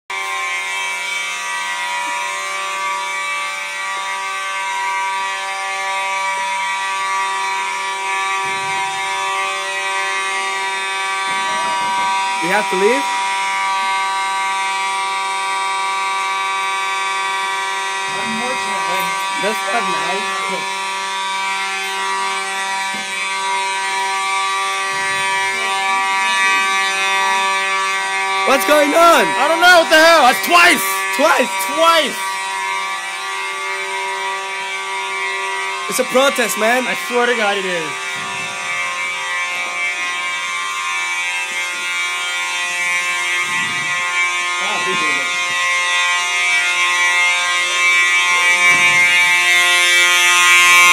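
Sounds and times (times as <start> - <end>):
fire alarm buzzy tone: 0.1 - 50.9.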